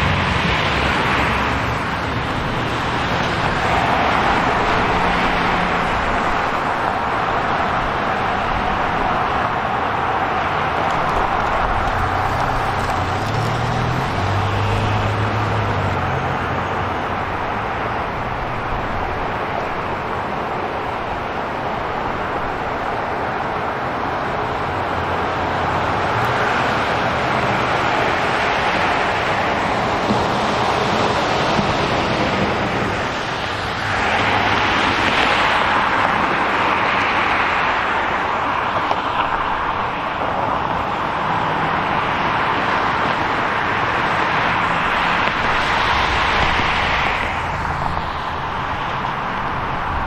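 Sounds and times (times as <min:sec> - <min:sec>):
street traffic: 0:00.0 - 0:50.0.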